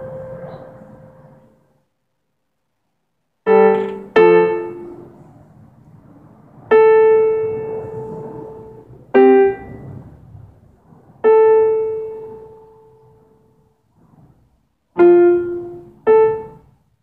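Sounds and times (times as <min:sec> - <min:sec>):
electronic piano chords: 0:00.0 - 0:01.6, 0:03.4 - 0:13.5, 0:15.0 - 0:17.0.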